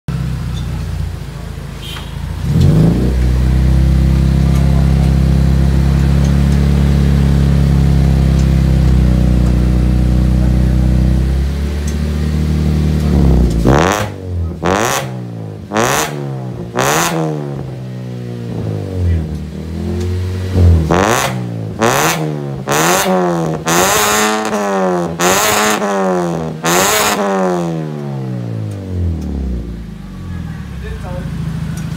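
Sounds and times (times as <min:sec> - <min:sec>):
car engine revving: 0:00.1 - 0:31.9.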